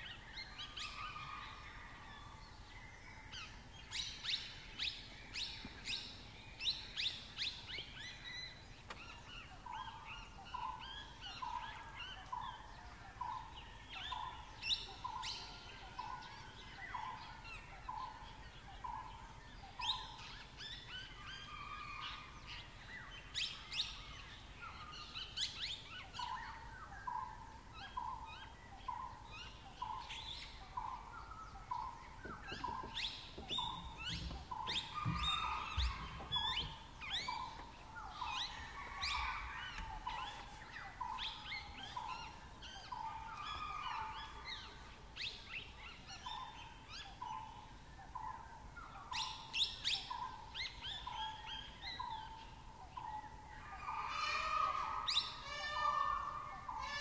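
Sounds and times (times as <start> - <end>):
bird chorus chirps and trills: 0.0 - 57.0.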